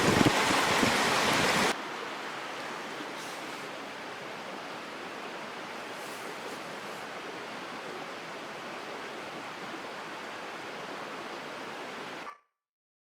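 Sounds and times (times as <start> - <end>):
mountain stream rushing: 0.0 - 12.3.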